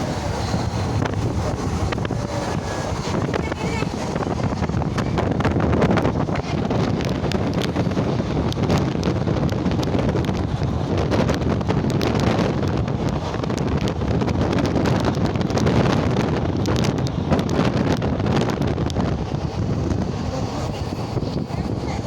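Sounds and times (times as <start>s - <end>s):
train rumbling at speed: 0.0s - 22.0s
wind buffeting microphone: 0.0s - 22.0s.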